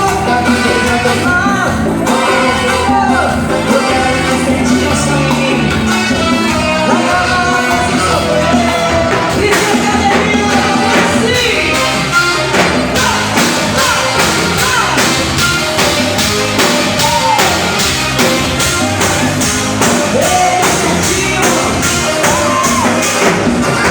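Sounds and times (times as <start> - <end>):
woman singing: 0.0 - 15.5, 20.1 - 23.8
latin dance music: 0.0 - 23.9.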